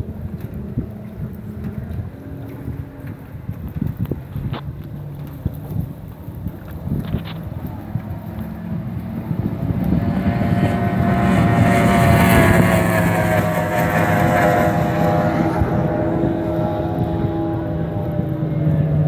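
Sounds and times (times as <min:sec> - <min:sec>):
speedboat engine passing: 0:00.0 - 0:19.0.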